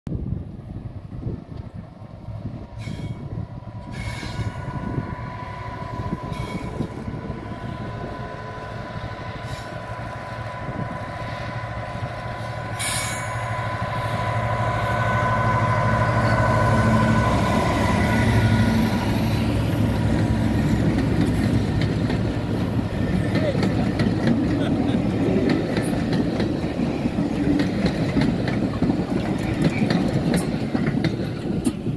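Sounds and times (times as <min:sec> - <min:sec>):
diesel locomotives droning: 0:00.1 - 0:31.9.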